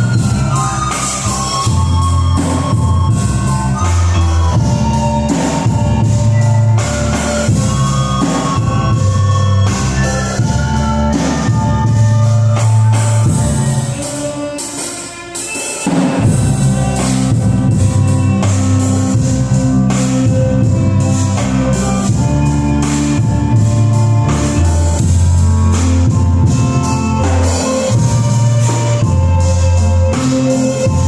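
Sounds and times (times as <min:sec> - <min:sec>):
bass and guitar: 0:00.0 - 0:14.7, 0:15.9 - 0:31.0
drum kit beat: 0:00.0 - 0:31.0.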